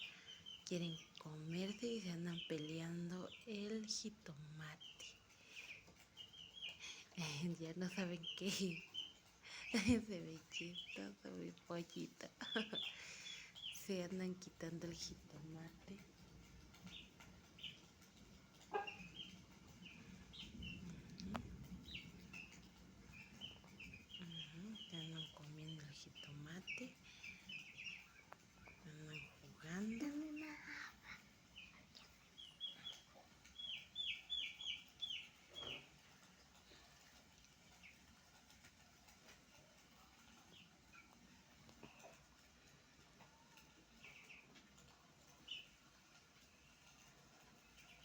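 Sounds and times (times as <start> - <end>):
chicks peeping: 0.0 - 48.0
faint ticks: 2.5 - 48.0.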